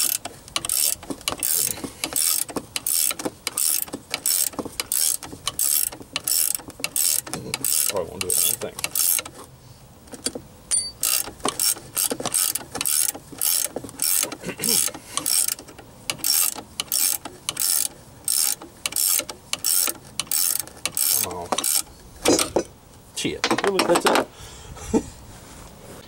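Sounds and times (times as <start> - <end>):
ratchet wrench clicking: 0.0 - 9.4, 10.1 - 22.6.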